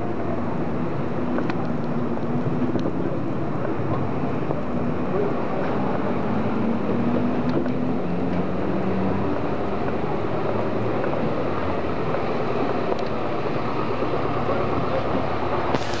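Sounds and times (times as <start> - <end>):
traffic running: 0.0 - 16.0.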